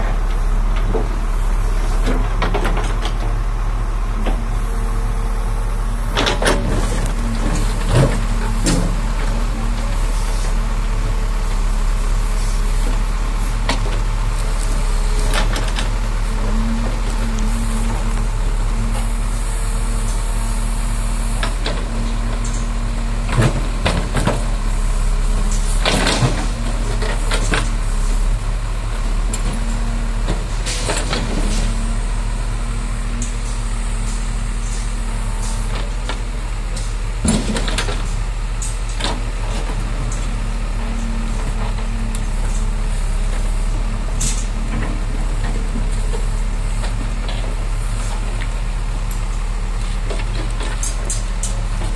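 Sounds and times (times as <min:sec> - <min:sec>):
diesel engine under load: 0:00.0 - 0:51.9.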